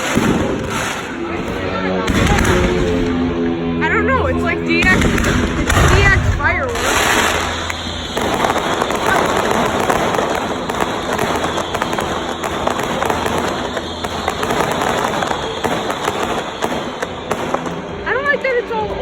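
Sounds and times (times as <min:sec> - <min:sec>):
fireworks crackling: 0:00.0 - 0:03.3, 0:04.4 - 0:19.0.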